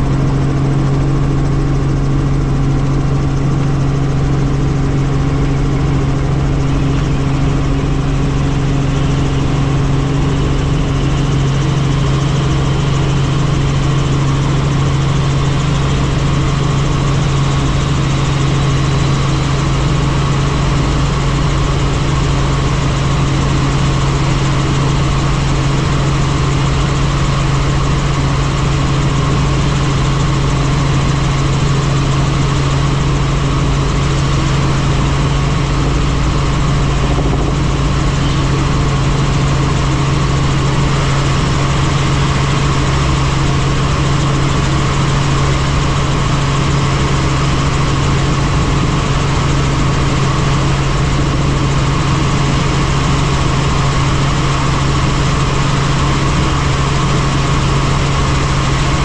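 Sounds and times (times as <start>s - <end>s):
helicopter rotor drone: 0.0s - 59.0s.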